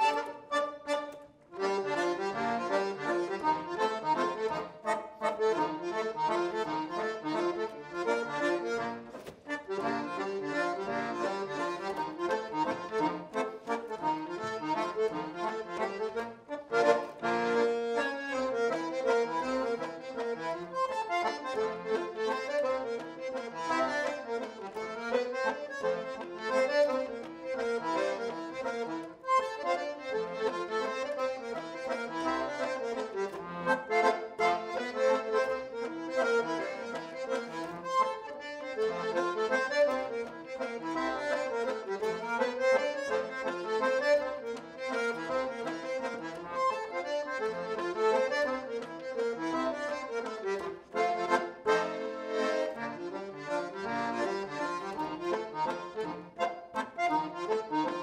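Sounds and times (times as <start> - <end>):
concertina playing a waltz: 0.0 - 58.0.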